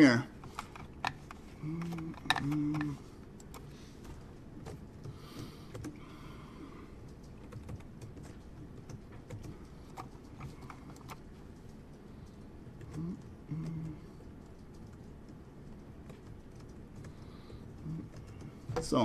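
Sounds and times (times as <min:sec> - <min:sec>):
computer keyboard typing: 0:00.0 - 0:19.0.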